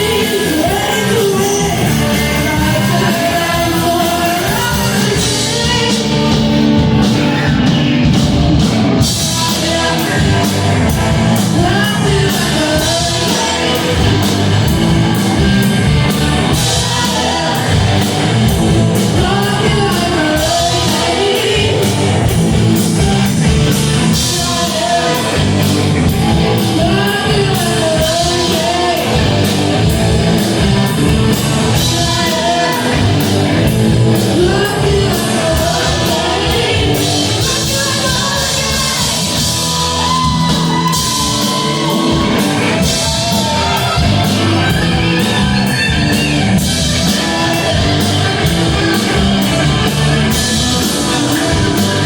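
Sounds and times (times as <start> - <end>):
bass guitar: 0.0 - 52.0
drum kit: 0.0 - 52.0
electric guitars: 0.0 - 52.0
person singing: 0.0 - 52.0.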